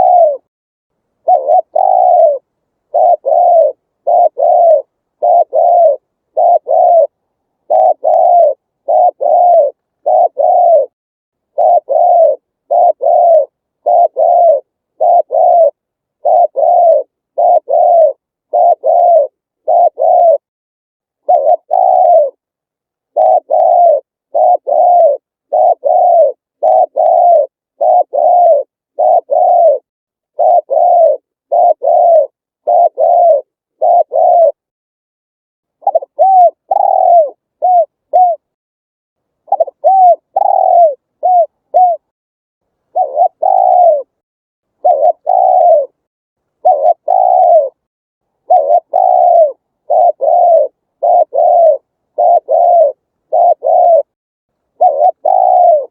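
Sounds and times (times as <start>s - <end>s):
dove cooing: 0.0s - 0.5s, 1.2s - 20.5s, 21.2s - 22.4s, 23.1s - 34.7s, 35.8s - 38.6s, 39.4s - 42.1s, 42.9s - 44.2s, 44.8s - 55.9s.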